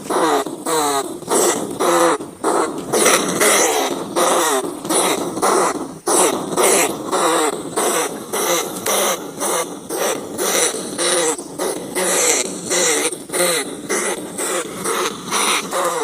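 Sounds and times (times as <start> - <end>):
rats squealing: 0.0 - 16.0.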